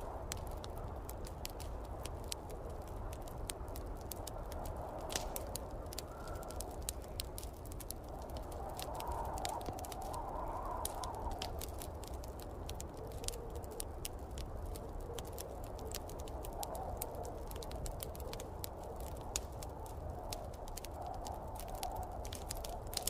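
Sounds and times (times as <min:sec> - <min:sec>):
snowstorm wind: 0:00.0 - 0:23.0
wood fire crackling: 0:00.0 - 0:23.0.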